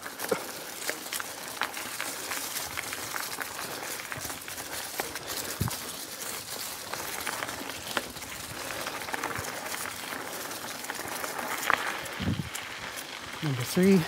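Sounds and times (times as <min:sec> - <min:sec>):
bike clicks and rattles: 0:00.0 - 0:14.0
bike tyre rolling noise: 0:00.0 - 0:14.0.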